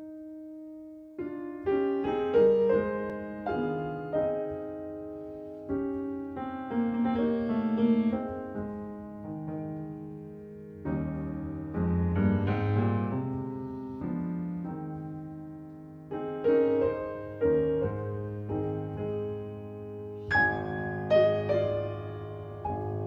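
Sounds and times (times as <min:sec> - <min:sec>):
slow solo piano: 0:00.0 - 0:23.0.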